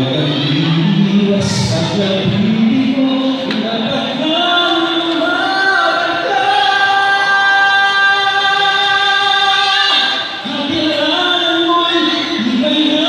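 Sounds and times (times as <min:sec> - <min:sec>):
backing track: 0:00.0 - 0:13.0
man singing long high note: 0:00.0 - 0:13.0.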